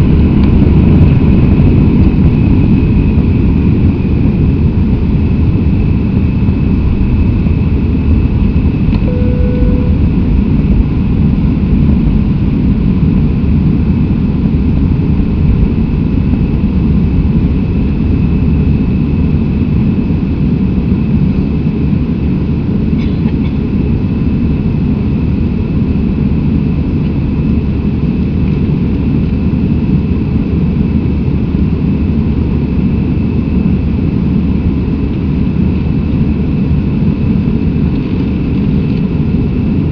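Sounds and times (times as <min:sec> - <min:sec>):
jet engine deep rumble: 0:00.0 - 0:39.9
jet engine high whine: 0:00.0 - 0:39.9.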